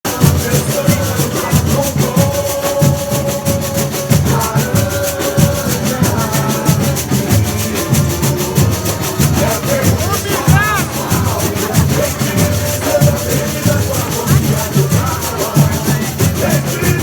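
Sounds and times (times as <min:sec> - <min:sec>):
deep bass drum beats: 0:00.1 - 0:17.0
shakers: 0:00.1 - 0:17.0.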